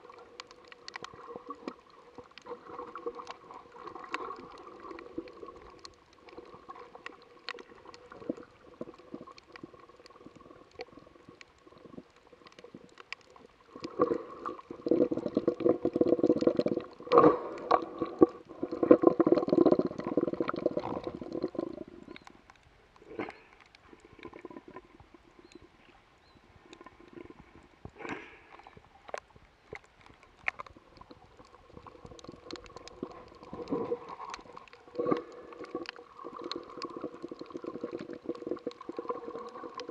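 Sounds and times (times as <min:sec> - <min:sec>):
muffled underwater water hush: 0:00.0 - 0:39.9
small sharp clicks underwater: 0:00.0 - 0:39.9.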